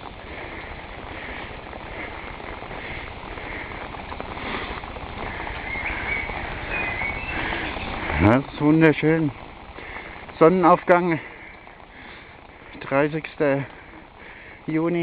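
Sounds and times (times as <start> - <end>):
footsteps on wet pavement: 0.0 - 15.0
heavy rain hissing: 0.0 - 15.0.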